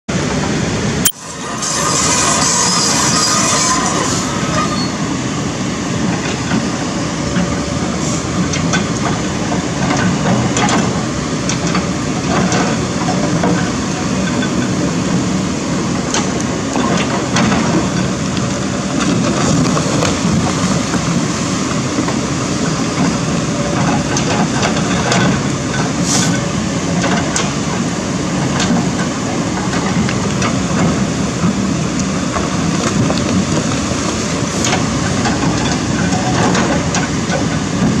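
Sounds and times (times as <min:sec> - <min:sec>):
excavator diesel engine running: 0:00.1 - 0:38.0.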